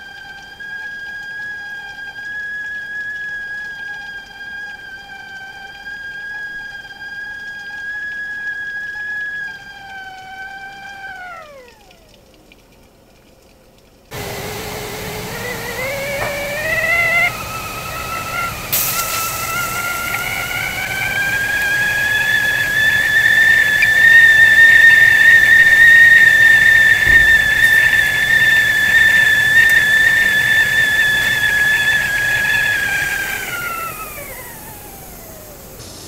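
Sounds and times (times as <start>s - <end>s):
tea kettle whistling: 0.0s - 12.1s, 14.1s - 36.0s.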